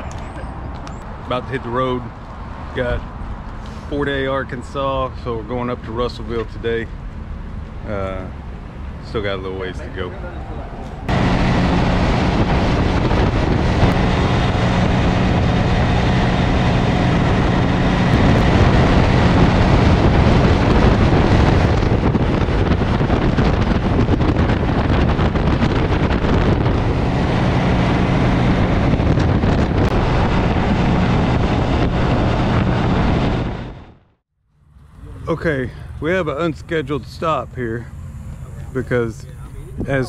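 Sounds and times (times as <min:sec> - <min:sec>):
wind noise on microphone: 0:00.0 - 0:34.1, 0:38.2 - 0:40.0
motorcycle engine drone: 0:00.0 - 0:40.0.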